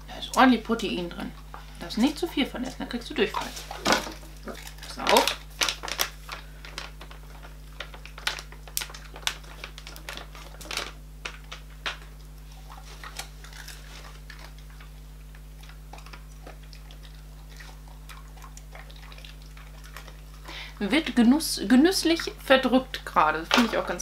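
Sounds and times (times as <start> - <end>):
dog chewing crunchy snack: 0.4 - 20.5.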